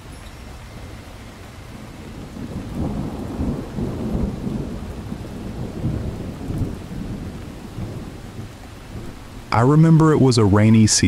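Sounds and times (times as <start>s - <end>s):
rolling thunder: 0.0s - 10.4s
steady rain: 0.0s - 11.0s.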